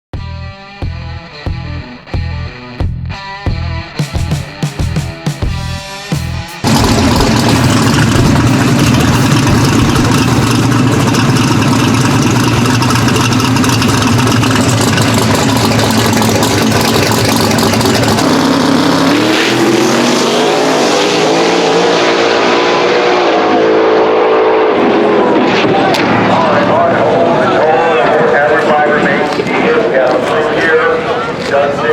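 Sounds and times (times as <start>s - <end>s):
race car engine revving: 4.1s - 31.6s.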